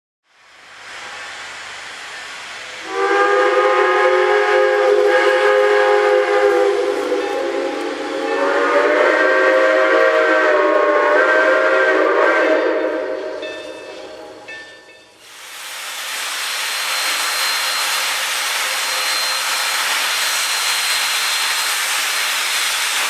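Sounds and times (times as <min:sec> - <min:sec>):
steam hissing: 0:00.2 - 0:23.0
steam locomotive chime whistle: 0:02.7 - 0:15.2, 0:16.5 - 0:23.0.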